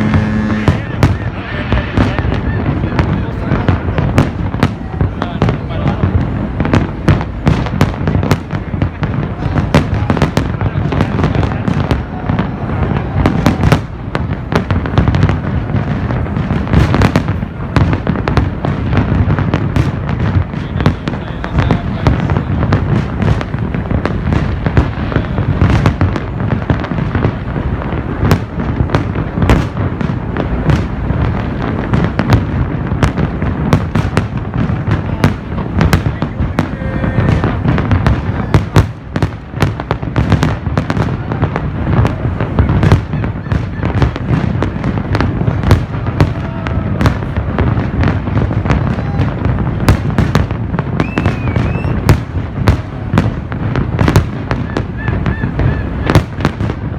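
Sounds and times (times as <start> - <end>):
fireworks bursting and crackling: 0.0 - 56.9.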